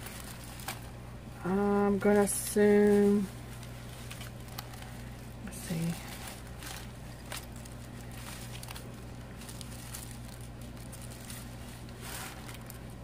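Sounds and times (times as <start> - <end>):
paper rustling: 0.0 - 1.0, 1.9 - 13.0
low hum: 0.0 - 13.0.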